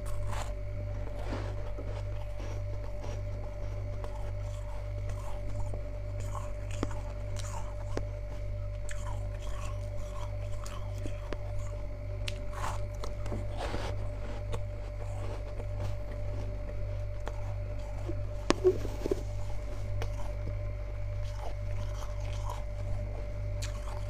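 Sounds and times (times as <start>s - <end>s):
freezer frost crunching: 0.0s - 24.0s
steady low hum: 0.0s - 24.0s.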